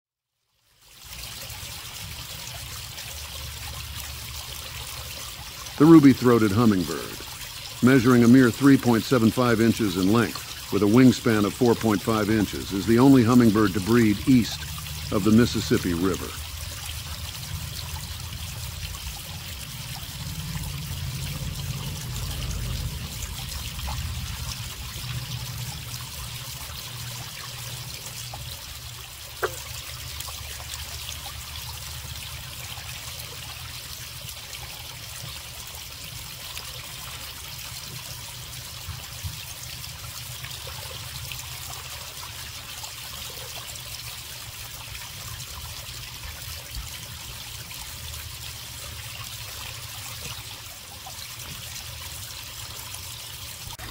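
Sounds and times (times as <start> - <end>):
water trickling: 0.4 - 53.9.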